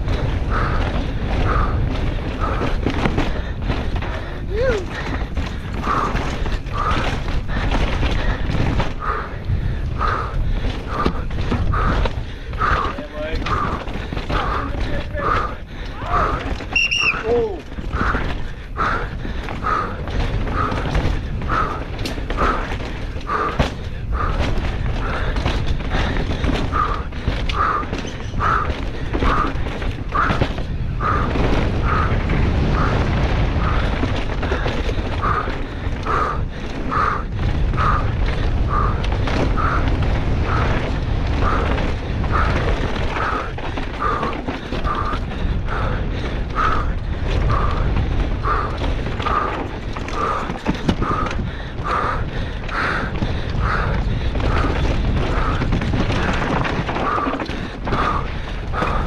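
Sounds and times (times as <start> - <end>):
bike clicks and rattles: 0.0 - 59.0
bike tyres rumbling on dirt: 0.0 - 59.0
wind on camera: 0.0 - 59.0.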